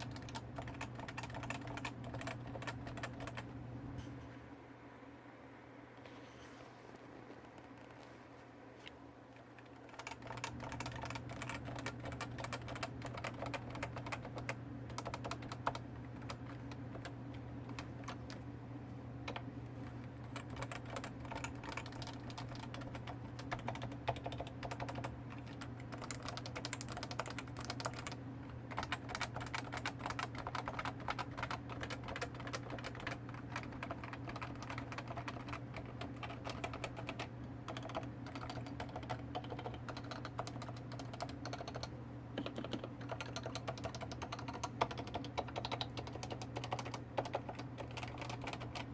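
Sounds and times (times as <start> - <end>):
fast keyboard typing: 0.0 - 3.5, 9.4 - 18.5, 19.2 - 48.9.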